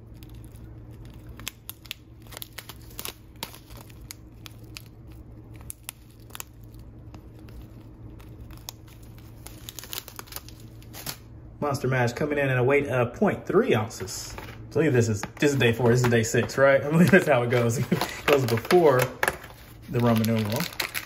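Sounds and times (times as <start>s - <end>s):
plastic pouch crinkling: 0.0s - 11.3s, 15.3s - 21.0s
low steady hum: 0.0s - 21.0s.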